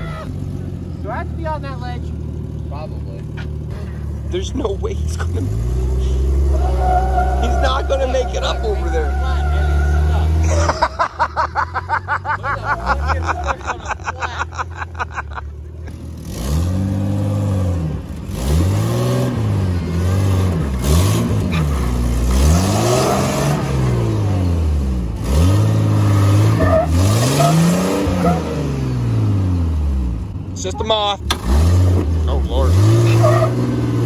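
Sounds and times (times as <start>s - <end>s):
engine revving: 0.0s - 14.1s, 15.8s - 34.0s.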